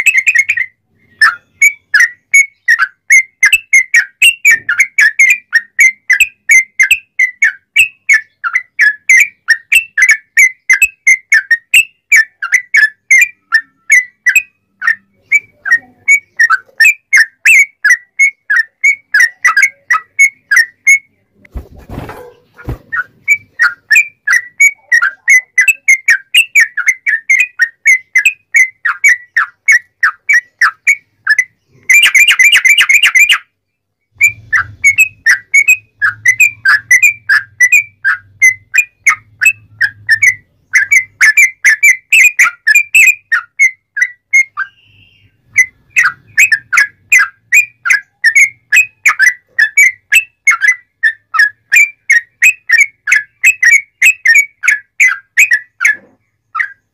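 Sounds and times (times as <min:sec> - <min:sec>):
bird singing whistled notes: 0:00.0 - 0:21.2, 0:22.2 - 0:56.9.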